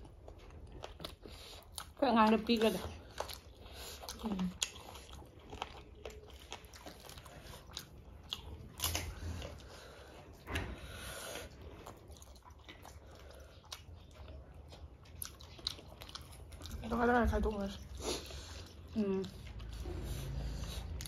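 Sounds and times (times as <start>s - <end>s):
biting and chewing: 0.0s - 21.0s.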